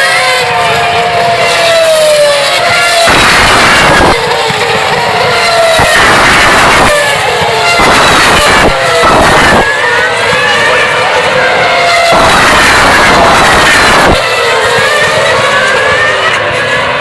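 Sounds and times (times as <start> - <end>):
racing cars screaming past: 0.0 - 17.0.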